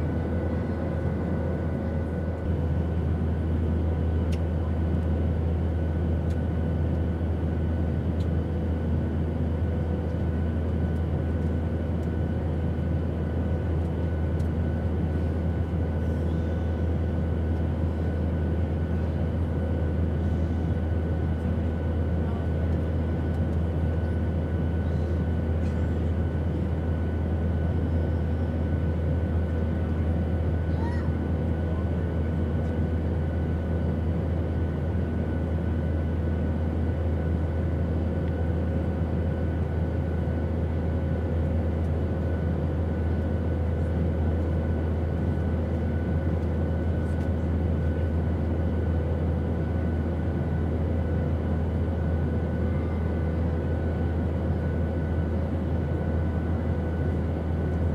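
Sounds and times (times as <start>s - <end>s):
airplane engine drone: 0.0s - 57.9s.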